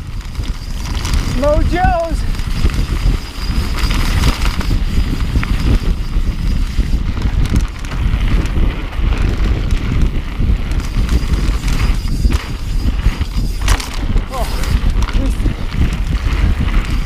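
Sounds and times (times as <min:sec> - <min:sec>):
bike clicks and rattles: 0:00.0 - 0:17.0
tyres on dirt: 0:00.0 - 0:17.0
wind buffeting microphone: 0:00.0 - 0:17.0.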